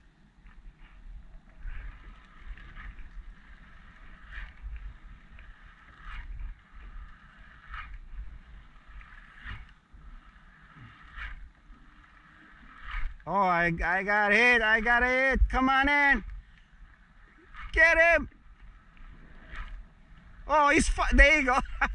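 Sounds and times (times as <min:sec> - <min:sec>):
kayak paddle splashes: 0:00.6 - 0:21.9.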